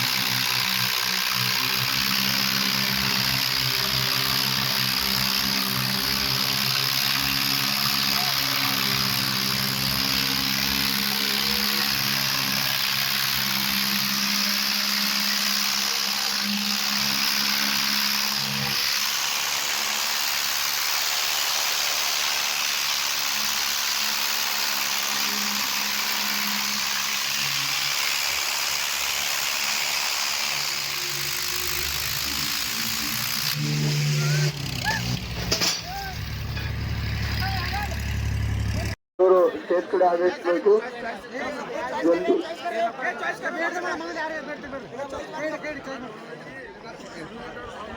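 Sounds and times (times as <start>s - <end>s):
diesel tractor engine running: 0.0s - 39.0s.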